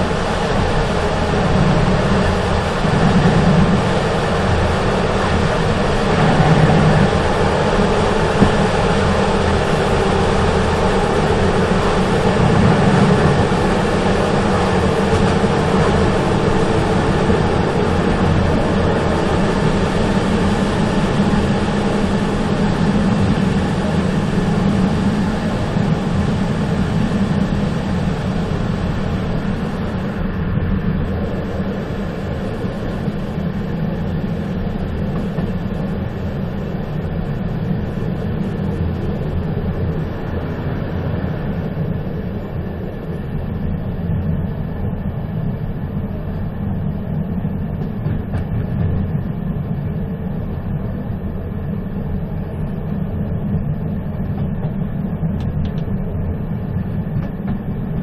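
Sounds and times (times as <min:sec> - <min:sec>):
train running noise: 0:00.0 - 0:58.0.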